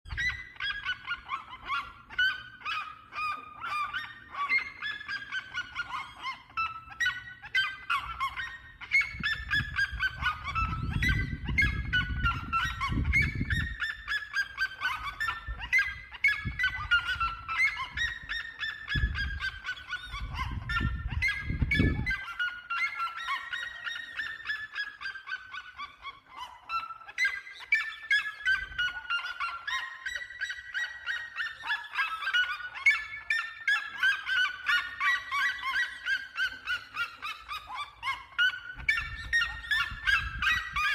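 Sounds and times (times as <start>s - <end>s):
birds yelping calls: 0.0s - 40.9s.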